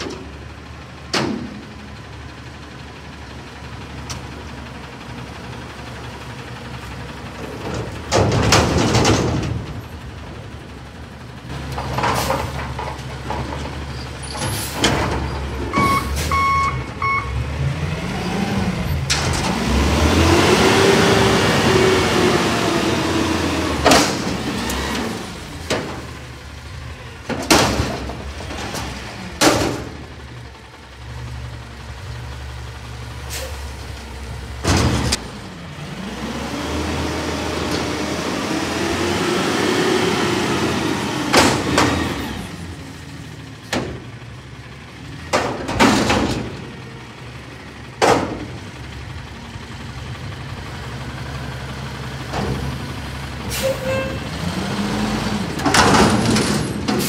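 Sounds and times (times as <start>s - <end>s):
garbage truck engine revving: 4.4s - 57.0s.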